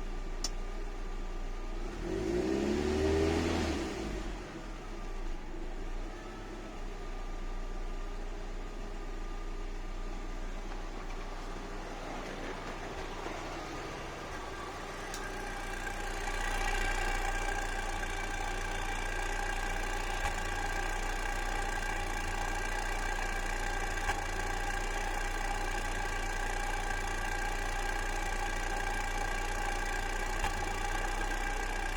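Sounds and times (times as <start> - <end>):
car engine idling with misfire: 0.0 - 31.9.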